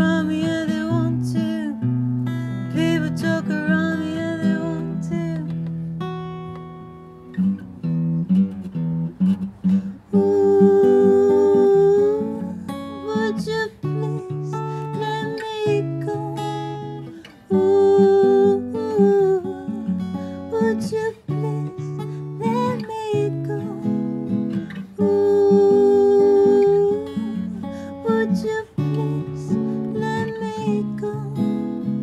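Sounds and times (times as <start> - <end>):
woman singing: 0.0 - 5.7, 10.0 - 32.0
acoustic guitar fingerpicked and strummed: 0.0 - 32.0.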